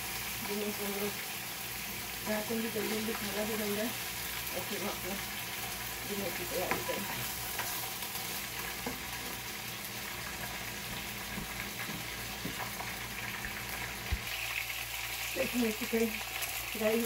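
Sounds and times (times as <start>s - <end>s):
chicken sizzling in a wok: 0.0s - 17.0s.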